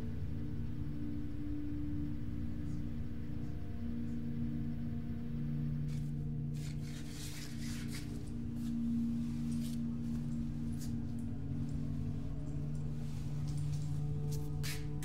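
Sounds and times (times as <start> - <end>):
low drone of background score: 0.0 - 15.0.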